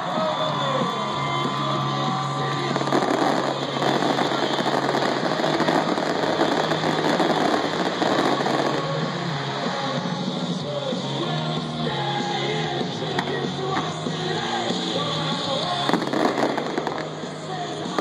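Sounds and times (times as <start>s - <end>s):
dense firework crackle: 0.0s - 11.2s, 12.8s - 18.0s
fireworks exploding: 0.0s - 11.3s, 12.0s - 18.0s.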